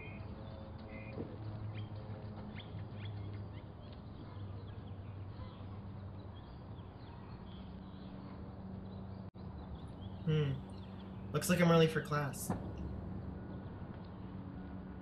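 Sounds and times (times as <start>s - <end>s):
small birds chirping: 0.0s - 14.4s
steady low hum: 0.0s - 15.0s.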